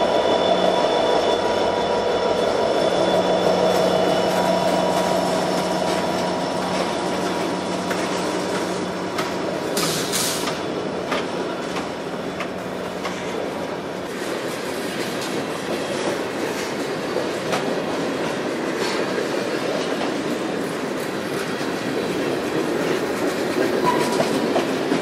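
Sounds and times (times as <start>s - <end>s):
diesel locomotive hum: 0.0s - 25.0s
train wheels rumbling on rail: 0.0s - 25.0s.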